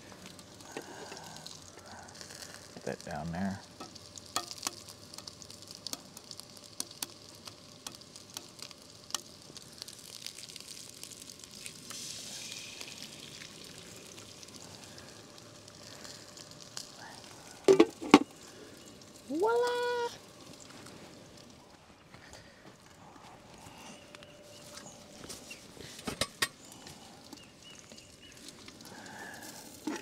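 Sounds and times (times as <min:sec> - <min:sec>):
food sizzling in frying pan: 0:00.0 - 0:21.8, 0:24.5 - 0:30.0.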